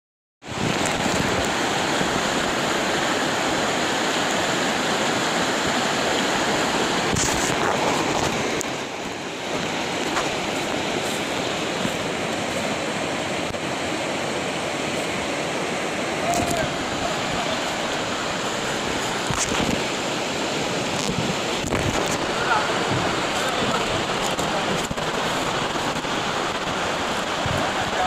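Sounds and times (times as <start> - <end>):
river rapids rushing over rocks: 0.5 - 28.0.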